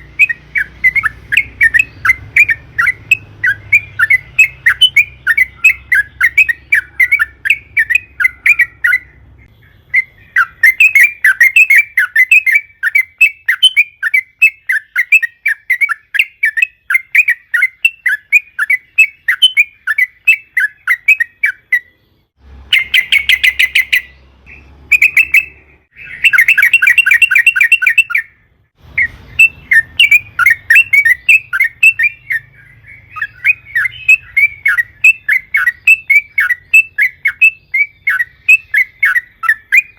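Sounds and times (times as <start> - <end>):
bird singing chattering runs: 0.0 - 39.9.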